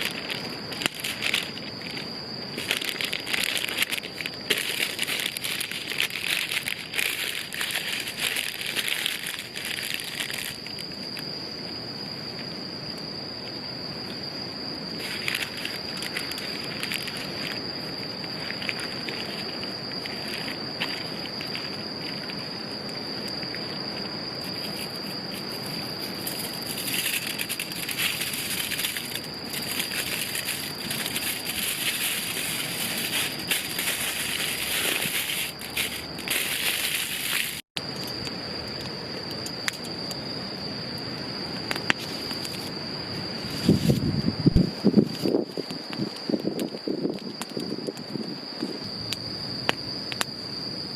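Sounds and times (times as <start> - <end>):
high-pitched insect trill: 0.0 - 50.9.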